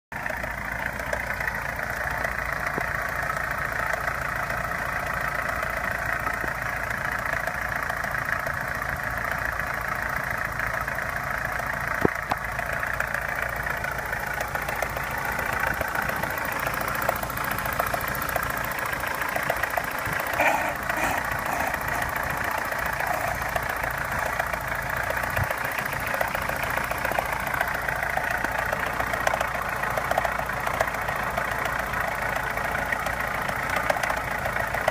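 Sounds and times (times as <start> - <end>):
car engine knocking: 0.1 - 34.9.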